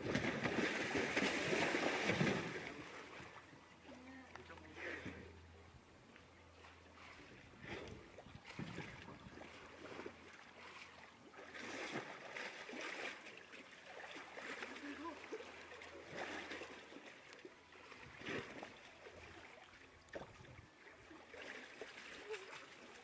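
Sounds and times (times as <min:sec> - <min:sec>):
pool water splashing and sloshing: 0:00.0 - 0:23.0.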